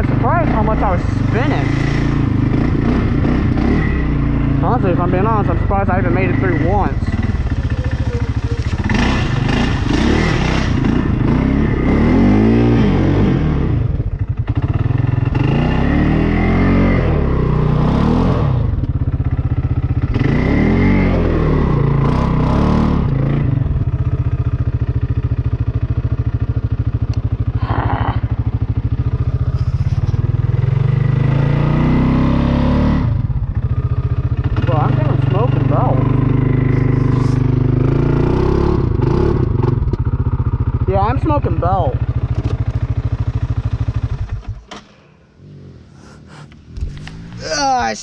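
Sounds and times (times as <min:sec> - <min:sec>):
atv engine revving: 0:00.0 - 0:48.0.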